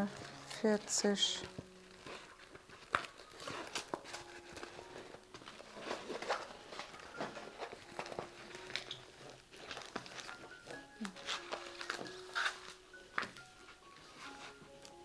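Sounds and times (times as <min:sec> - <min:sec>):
canvas and plastic film crinkling: 0:00.0 - 0:15.0.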